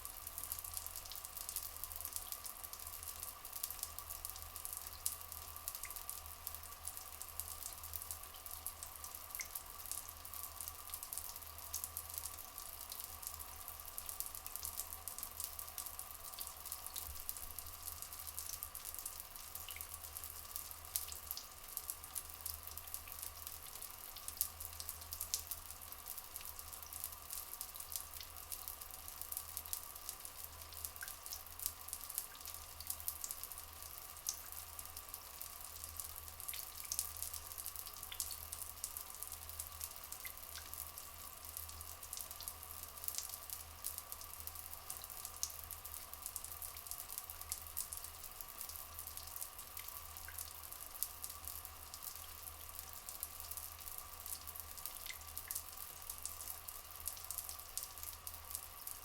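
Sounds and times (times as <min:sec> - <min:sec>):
water trickling and dripping: 0:00.0 - 0:59.0.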